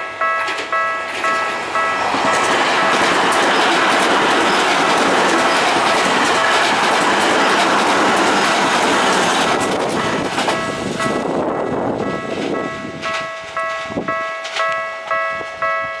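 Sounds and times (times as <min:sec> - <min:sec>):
crossing warning bell clanging: 0:00.0 - 0:16.0
train wheel and rail clatter: 0:00.0 - 0:16.0.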